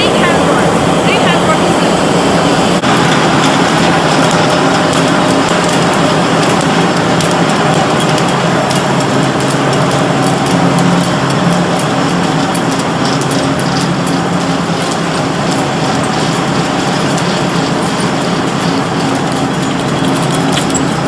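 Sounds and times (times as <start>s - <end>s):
machinery humming: 0.0s - 21.0s
clatter of small clicks: 2.8s - 21.0s.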